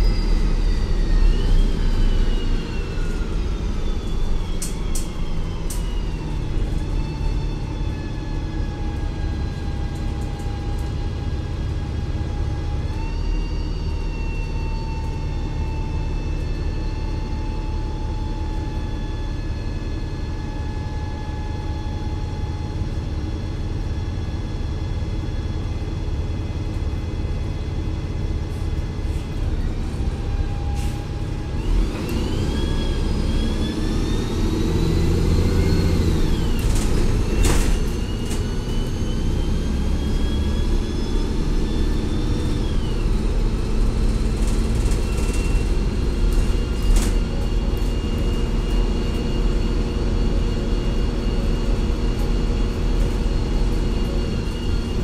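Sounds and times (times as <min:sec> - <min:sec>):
bus engine rumble: 0:00.0 - 0:55.0
high transmission whine: 0:00.0 - 0:55.0.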